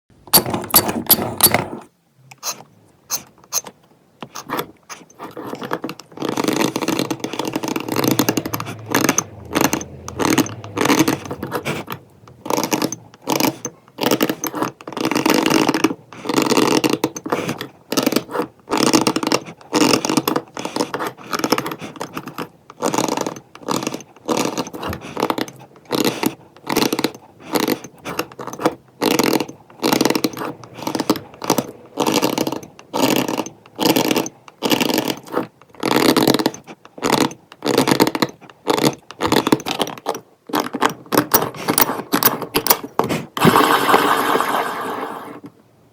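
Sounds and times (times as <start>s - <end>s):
tool scraping over stone: 0.3s - 45.5s.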